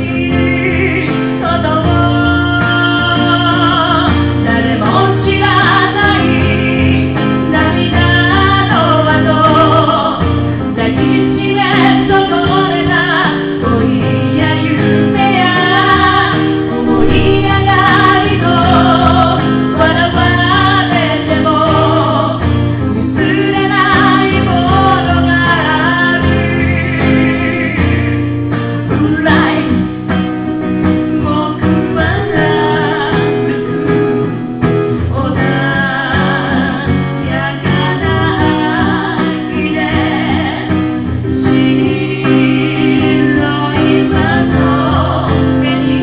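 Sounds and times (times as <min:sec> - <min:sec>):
woman singing: 0:00.0 - 0:28.1, 0:28.8 - 0:34.4, 0:35.0 - 0:46.0
guitar: 0:00.0 - 0:46.0.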